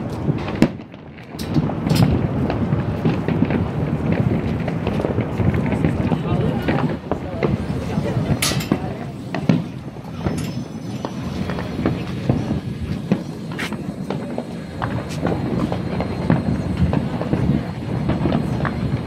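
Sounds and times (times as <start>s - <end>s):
distant fireworks bangs and pops: 0.0s - 19.0s
sharp firework cracks: 0.0s - 19.0s.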